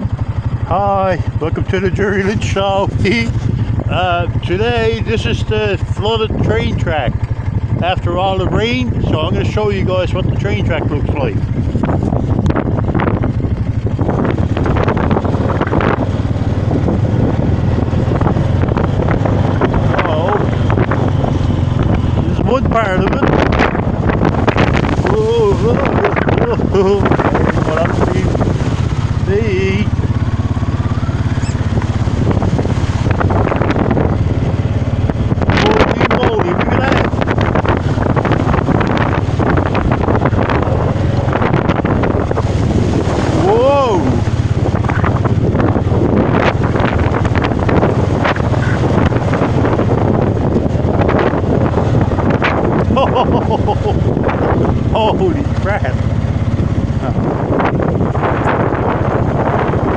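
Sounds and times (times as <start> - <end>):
vehicle rumble: 0.0 - 59.9
wind buffeting microphone: 0.0 - 59.9.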